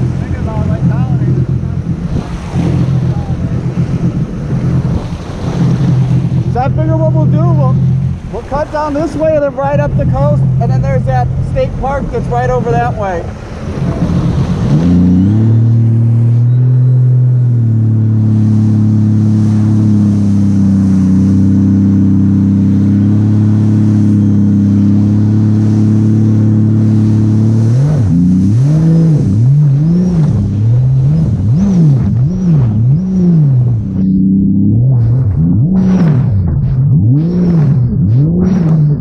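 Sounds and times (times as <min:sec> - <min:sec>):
jet ski engine droning: 0:00.0 - 0:39.0.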